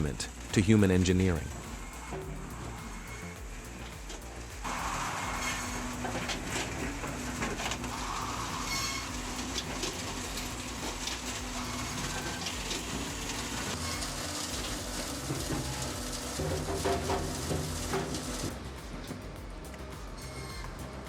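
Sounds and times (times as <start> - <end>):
wood-splitting machine humming: 0.0 - 21.0
knocks and clatter: 1.5 - 20.8.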